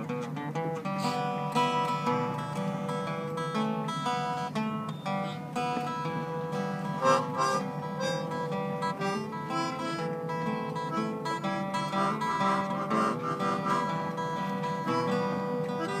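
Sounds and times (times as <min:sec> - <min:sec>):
acoustic guitar melody: 0:00.0 - 0:16.0.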